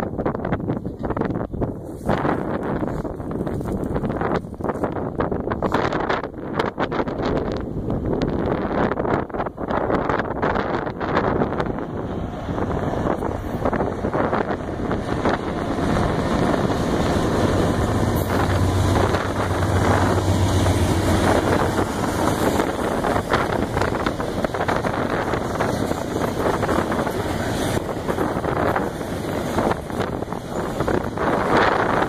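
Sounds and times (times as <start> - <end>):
diesel locomotive engine drone: 0.0 - 32.0
train cars rumbling on track: 0.0 - 32.0.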